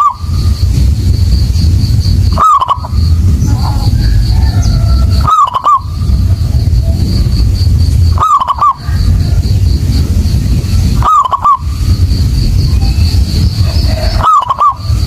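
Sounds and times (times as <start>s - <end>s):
dove cooing: 0.0s - 0.5s, 2.3s - 15.0s
loud low rumble: 0.0s - 15.0s.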